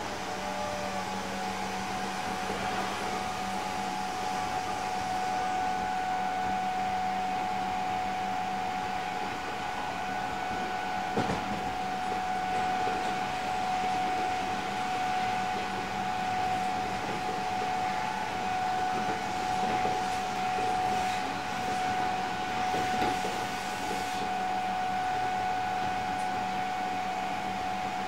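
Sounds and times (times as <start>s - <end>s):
electric train running rumble: 0.0s - 28.0s.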